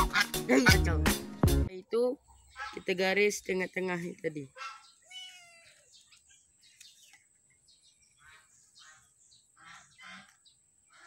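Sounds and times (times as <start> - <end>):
faint bird chirps: 2.0 - 11.0.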